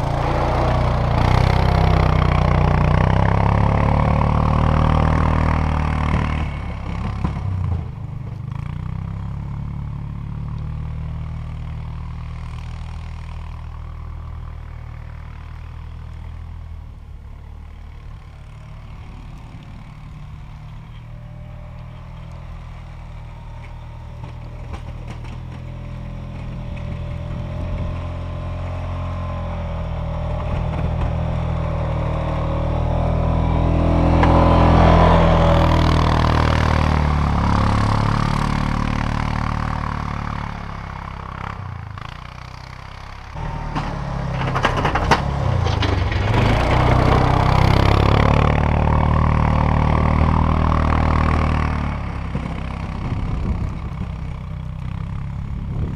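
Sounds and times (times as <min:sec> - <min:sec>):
atv engine running: 0:00.0 - 0:55.9.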